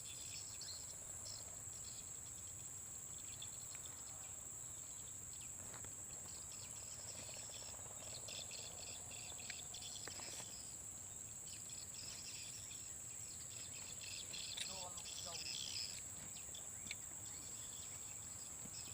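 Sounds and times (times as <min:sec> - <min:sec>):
faint bird chirps: 0:00.0 - 0:18.9
high-pitched insect drone: 0:00.0 - 0:18.9
pulsing insect chirring: 0:00.0 - 0:18.9.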